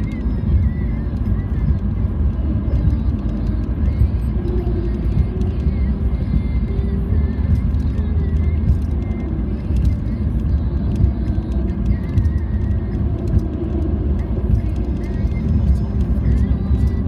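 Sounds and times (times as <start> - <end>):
tyre and road noise in car: 0.0 - 17.0.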